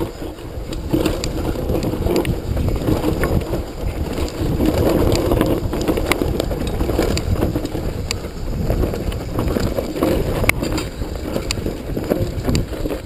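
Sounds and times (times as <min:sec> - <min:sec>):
bike knocks and rattles: 0:00.0 - 0:13.0
tyres crunching over stones: 0:00.0 - 0:13.0
wind on microphone: 0:00.0 - 0:13.0.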